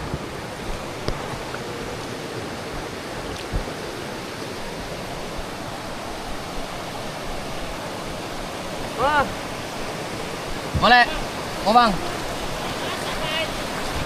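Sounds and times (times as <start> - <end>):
river rushing over rapids: 0.0 - 14.0.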